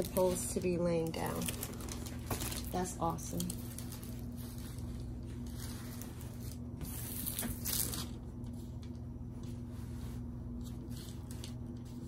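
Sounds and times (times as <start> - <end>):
plastic film rustling: 0.0 - 12.0
steady low hum: 0.0 - 12.0.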